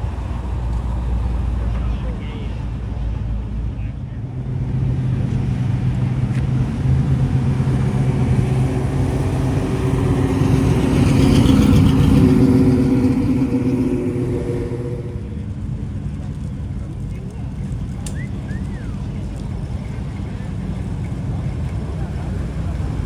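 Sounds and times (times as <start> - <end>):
car engine driving past: 0.0 - 23.0.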